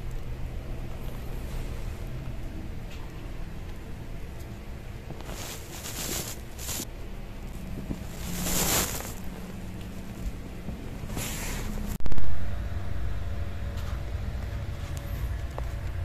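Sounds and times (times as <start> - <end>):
wobbling ceiling fan rumbling: 0.0 - 16.0.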